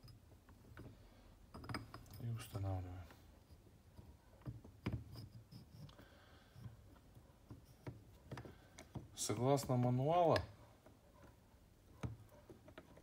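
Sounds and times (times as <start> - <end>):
metal parts clicking and knocking: 0.0 - 3.0, 3.9 - 13.0.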